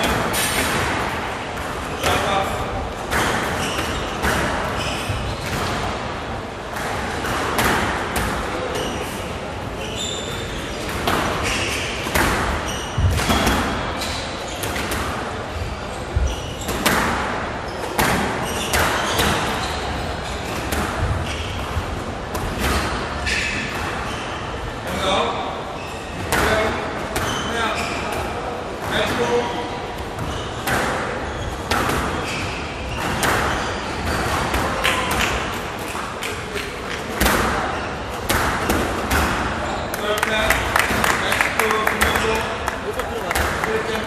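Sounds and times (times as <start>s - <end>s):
court shoes squeaking: 0.0s - 44.0s.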